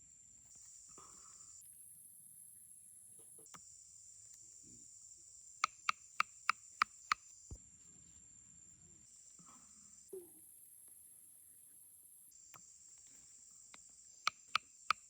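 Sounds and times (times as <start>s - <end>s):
insects chirping: 0.0s - 7.6s, 9.0s - 15.0s.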